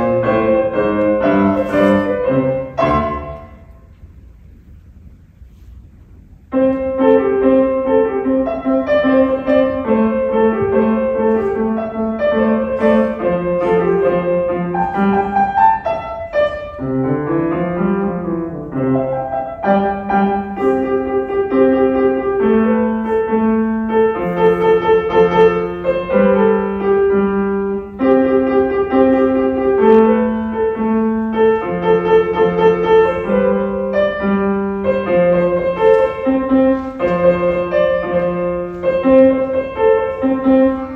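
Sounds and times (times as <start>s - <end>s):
solo piano melody: 0.0s - 40.9s.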